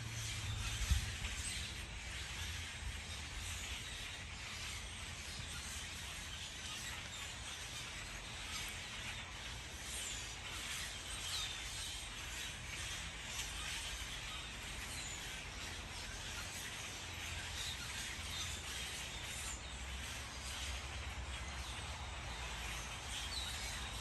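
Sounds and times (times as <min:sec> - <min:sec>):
faint bird chirps: 0:00.0 - 0:24.0
outdoor background hiss: 0:00.0 - 0:24.0.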